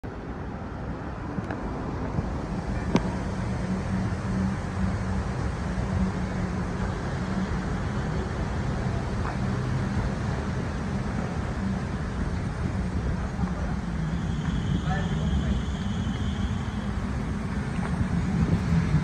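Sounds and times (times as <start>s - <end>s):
station background noise: 0.0s - 19.0s.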